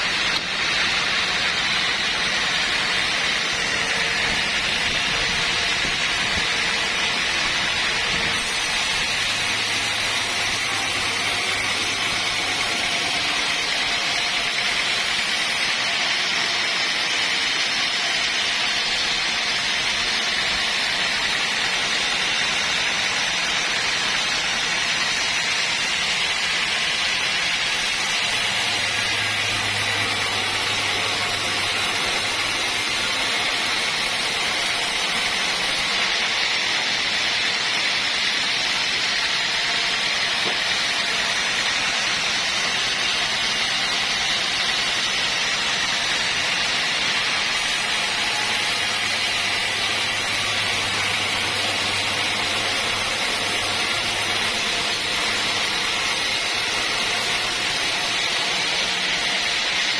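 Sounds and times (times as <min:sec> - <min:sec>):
saw blade cutting through log: 0:00.0 - 0:59.9.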